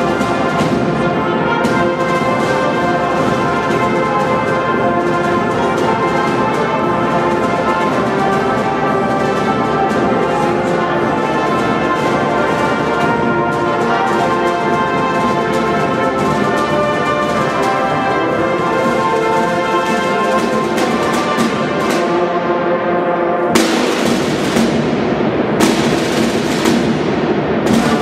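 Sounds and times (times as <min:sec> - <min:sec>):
side drums beating: 0:00.0 - 0:22.5, 0:23.5 - 0:28.0
percussion crash: 0:00.0 - 0:22.6, 0:23.5 - 0:28.0
marching band playing: 0:00.0 - 0:28.0.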